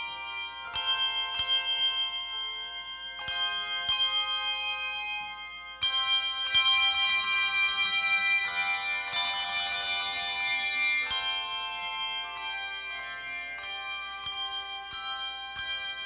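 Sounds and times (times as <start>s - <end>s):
handbell chords ringing: 0.0s - 16.0s.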